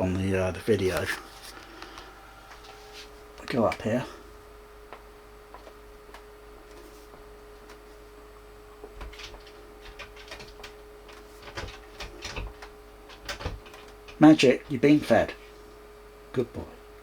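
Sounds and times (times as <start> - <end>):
projector humming: 0.0 - 17.0.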